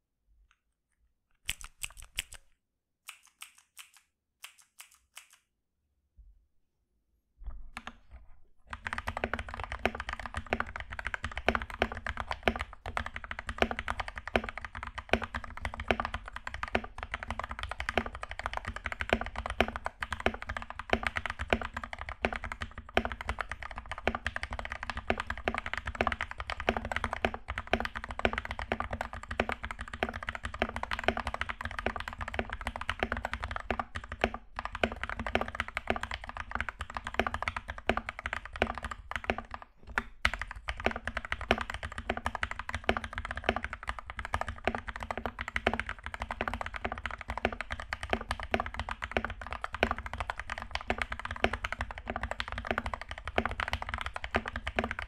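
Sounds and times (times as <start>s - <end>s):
fast mechanical keyboard typing: 8.7s - 55.0s.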